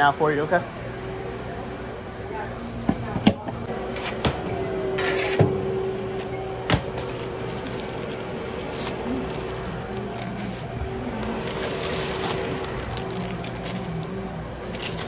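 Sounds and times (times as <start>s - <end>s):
oven hum: 0.0s - 15.0s.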